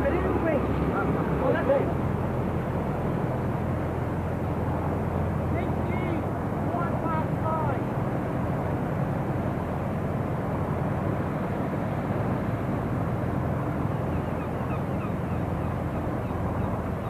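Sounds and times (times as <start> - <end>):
boat engine running: 0.0 - 17.0
bow wash rushing: 0.0 - 17.0.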